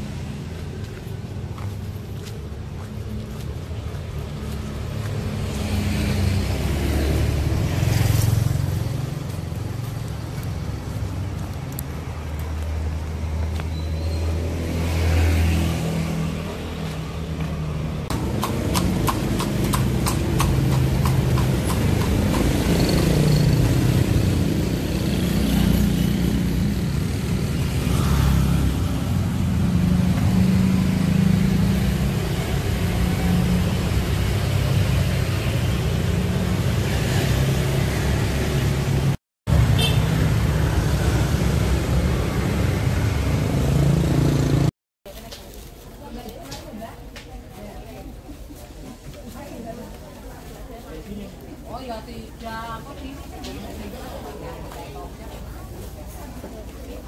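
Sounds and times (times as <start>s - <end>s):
scooters and cars passing: 0.0s - 44.7s, 45.5s - 57.0s.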